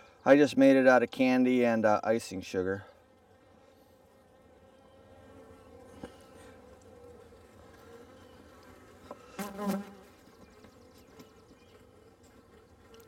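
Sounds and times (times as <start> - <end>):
honeybees buzzing: 0.3 - 13.0.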